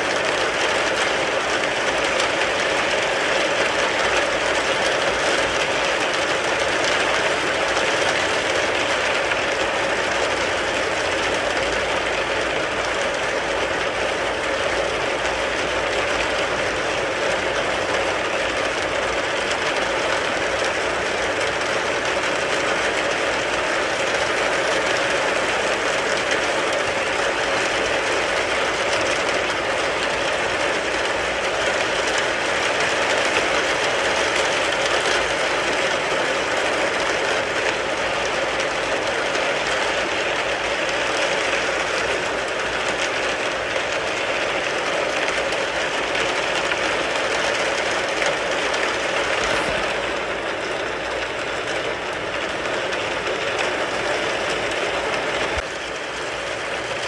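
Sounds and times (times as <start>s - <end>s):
rain pattering on a car: 0.0s - 48.9s.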